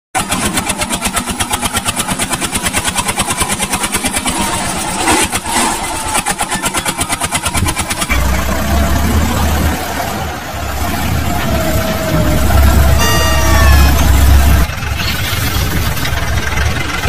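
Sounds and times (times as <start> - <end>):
tractor engine chugging: 0.2 - 17.0.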